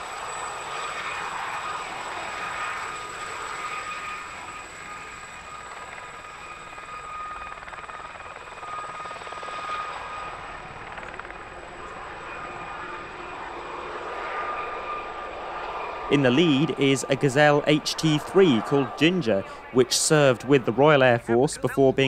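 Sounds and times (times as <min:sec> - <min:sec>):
helicopter engine and rotor: 0:00.0 - 0:22.0
high tail rotor whine: 0:00.0 - 0:22.0.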